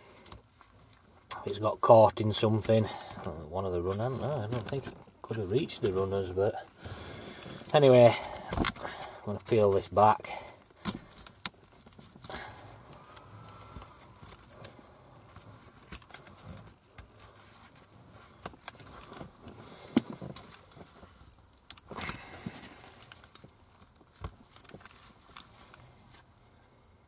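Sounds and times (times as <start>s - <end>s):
tape peeling clicks and rustles: 0.2s - 6.2s, 7.4s - 26.3s.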